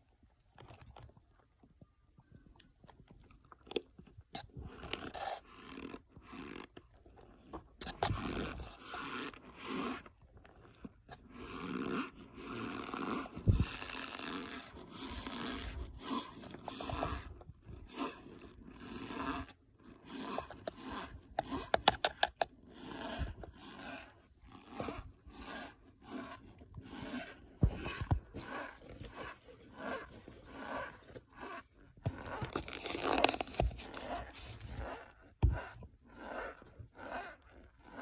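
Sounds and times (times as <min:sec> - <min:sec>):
cornstarch squeaky crunching: 0:02.5 - 0:38.0.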